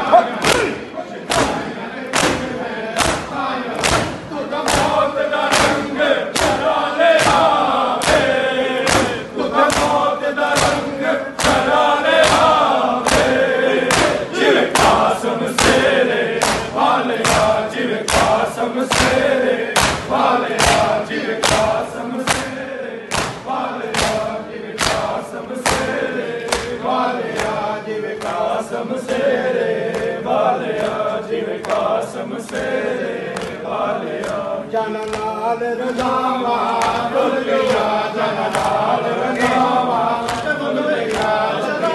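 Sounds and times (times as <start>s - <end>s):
men chanting in unison: 0.0s - 41.9s
hands slapping chests: 0.4s - 29.3s, 29.9s - 41.5s.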